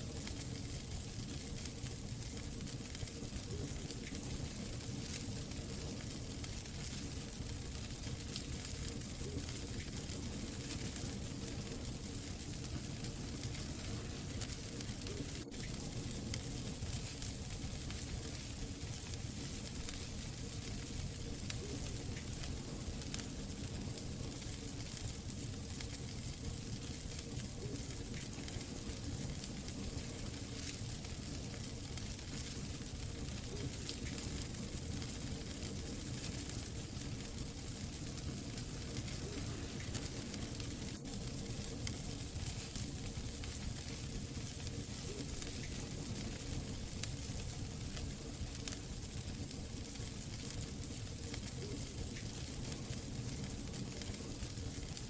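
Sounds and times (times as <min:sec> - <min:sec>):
fire crackling: 0:00.0 - 0:55.0
fire pops: 0:00.1 - 0:55.0.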